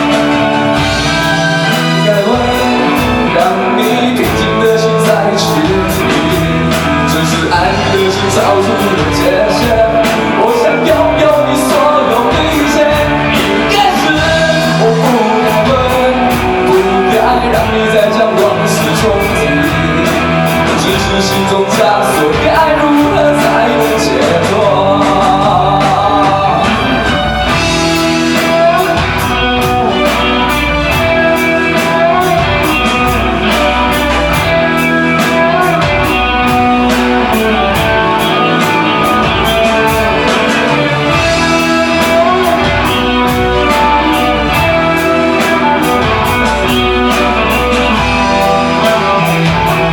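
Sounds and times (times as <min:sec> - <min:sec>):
person singing: 0:00.0 - 0:49.9
rock band playing: 0:00.0 - 0:49.9.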